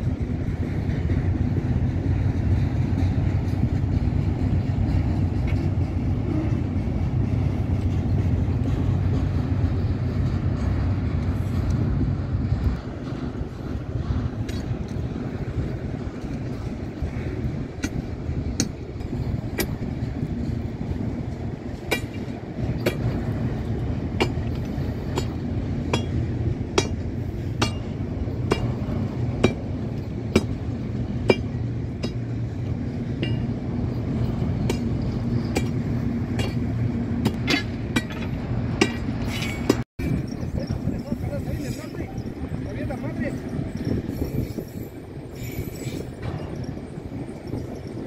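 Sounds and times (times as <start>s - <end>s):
freight train rumbling: 0.0s - 48.0s
wheels clanking on rail gaps: 0.0s - 48.0s.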